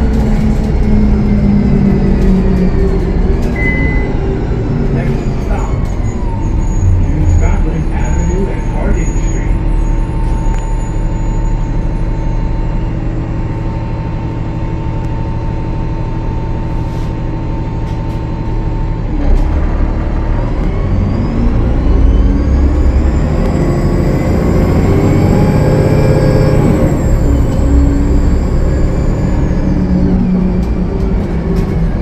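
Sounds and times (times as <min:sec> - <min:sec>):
bus diesel engine running: 0:00.0 - 0:32.0
turbocharger whine: 0:00.0 - 0:32.0.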